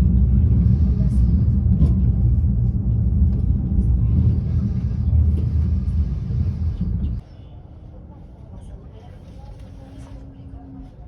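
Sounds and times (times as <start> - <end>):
train rumbling at speed: 0.0 - 11.0.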